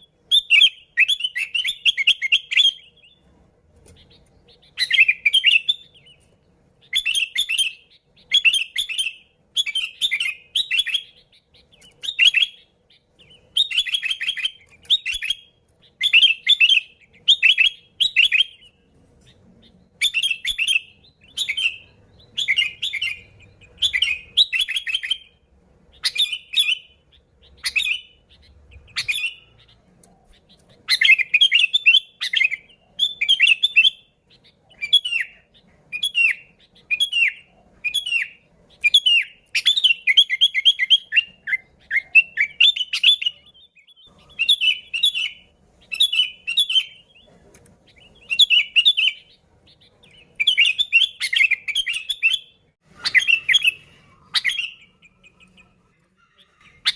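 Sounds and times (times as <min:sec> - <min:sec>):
bird chirping song: 0:00.0 - 0:56.9.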